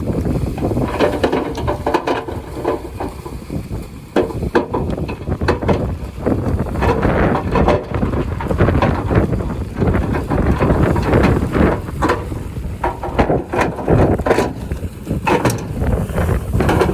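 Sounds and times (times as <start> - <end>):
bulldozer engine rumbling: 0.0 - 16.9
wind buffeting microphone: 0.0 - 16.9
tracks clanking and knocking: 0.6 - 3.4, 4.1 - 16.9.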